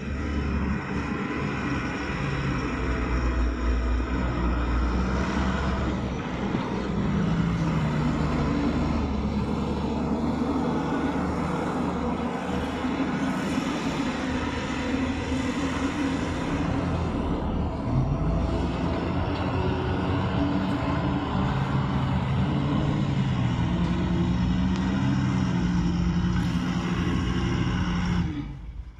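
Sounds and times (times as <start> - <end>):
diesel engine revving: 0.0 - 28.9.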